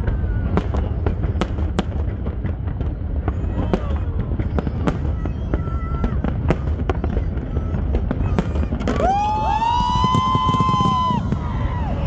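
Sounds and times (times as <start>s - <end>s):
fireworks bangs and crackles: 0.0s - 12.0s
low rumble: 0.0s - 12.0s
whistling fireworks: 0.0s - 12.0s.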